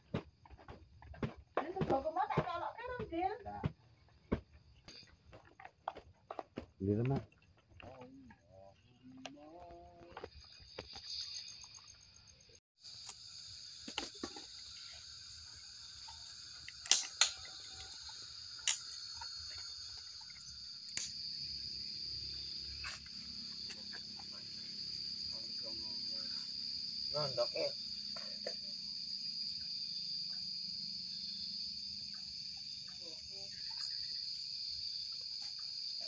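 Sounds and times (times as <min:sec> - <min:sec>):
night insects trilling: 0:00.1 - 0:36.0.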